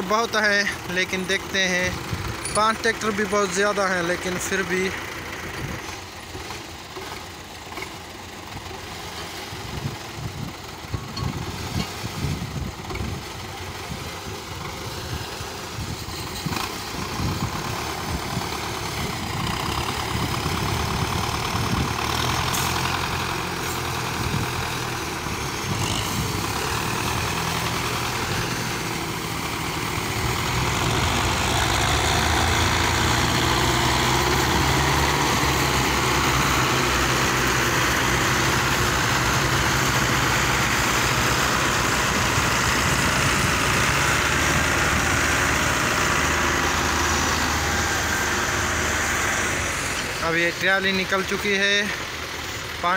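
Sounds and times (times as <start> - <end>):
tractor diesel engines straining: 0.0 - 52.9.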